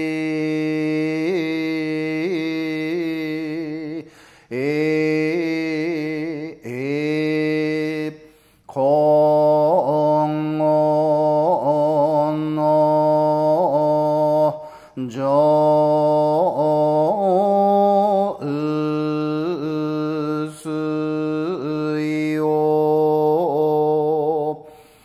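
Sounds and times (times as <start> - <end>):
man chanting: 0.0 - 24.8.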